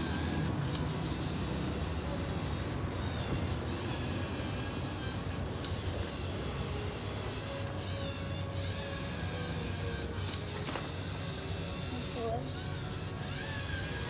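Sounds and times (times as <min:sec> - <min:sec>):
robot motors whirring: 0:00.0 - 0:14.0.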